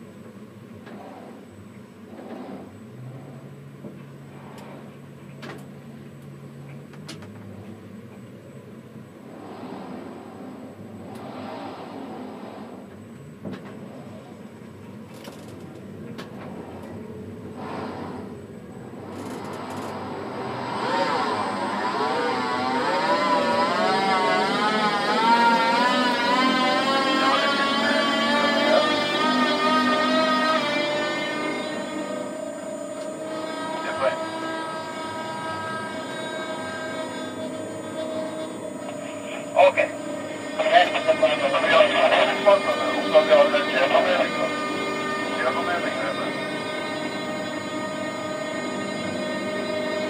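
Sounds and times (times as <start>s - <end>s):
crane electric drive humming: 0.0s - 50.0s.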